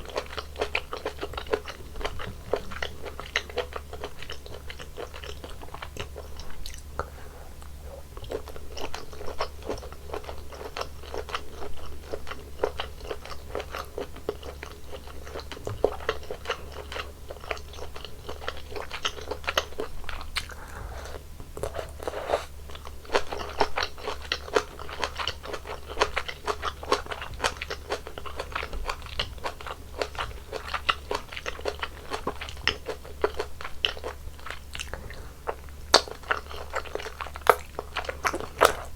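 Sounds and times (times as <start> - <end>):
person chewing and biting food: 0.0 - 38.9.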